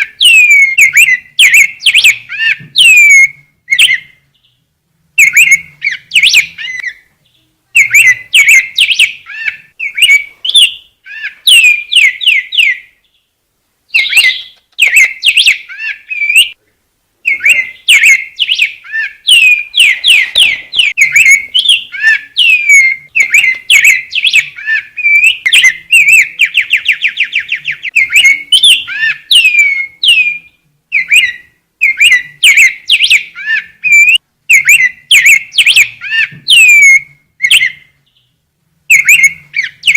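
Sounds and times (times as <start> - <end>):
bird singing whistled notes: 0.0 - 4.6, 5.2 - 13.3, 13.9 - 16.6, 17.2 - 39.9
bird trill: 0.0 - 13.3, 13.9 - 16.6, 17.2 - 39.9.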